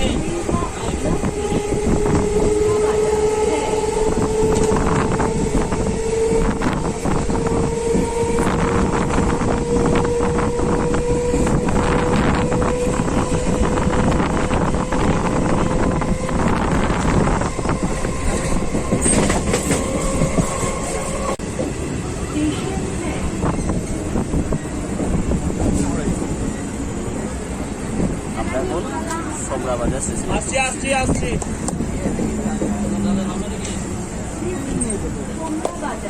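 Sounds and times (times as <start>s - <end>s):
electric train whine: 0.0s - 36.0s
train wheel clatter: 0.1s - 26.8s, 27.9s - 36.0s.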